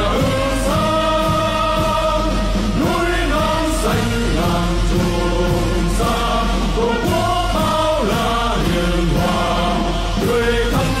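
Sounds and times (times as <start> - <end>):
choir singing held notes: 0.0 - 11.0
instrumental accompaniment: 0.0 - 11.0.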